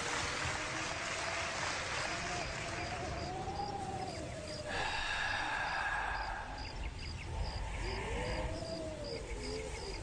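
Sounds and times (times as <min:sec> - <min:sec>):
crickets chirping: 0:01.9 - 0:10.0.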